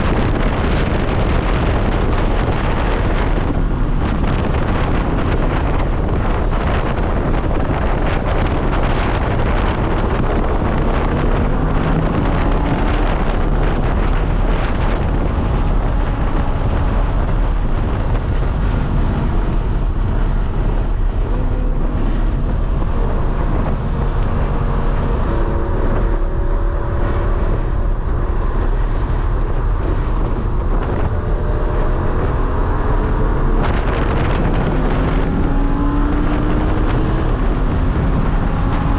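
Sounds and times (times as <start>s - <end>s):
race car engine revving: 0.0s - 38.9s
wind rushing over microphone: 0.0s - 38.9s.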